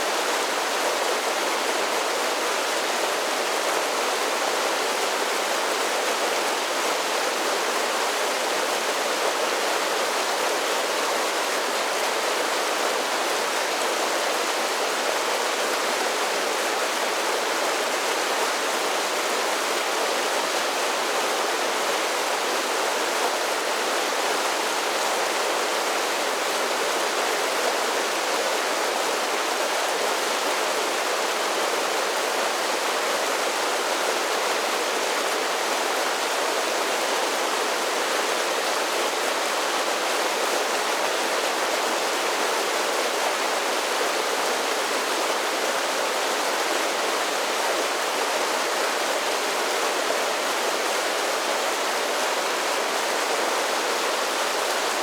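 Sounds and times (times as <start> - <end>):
creek water rushing over falls: 0.0 - 55.0.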